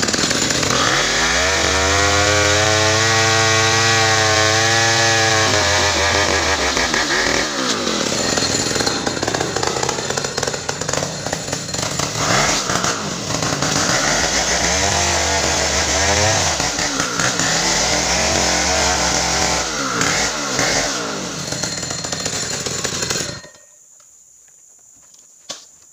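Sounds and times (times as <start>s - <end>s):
chainsaw cutting at high revs: 0.0s - 23.5s.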